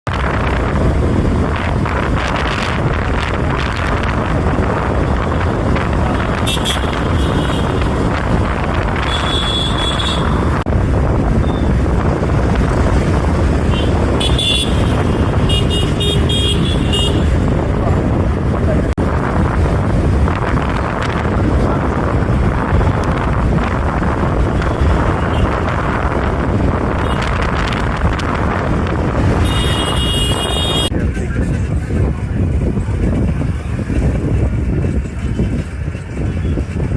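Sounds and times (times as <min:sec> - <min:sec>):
road and traffic rumble: 0:00.0 - 0:36.9
wind buffeting microphone: 0:00.0 - 0:36.9.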